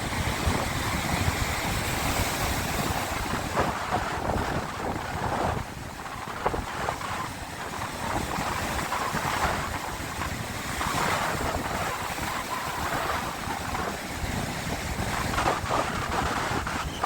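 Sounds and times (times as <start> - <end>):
sea waves washing ashore: 0.0 - 17.0
wind rumbling on microphone: 0.0 - 17.0.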